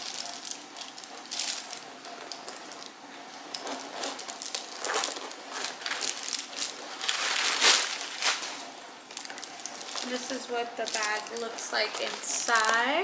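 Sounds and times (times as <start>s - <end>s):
handbag rustling and crinkling: 0.0s - 13.0s.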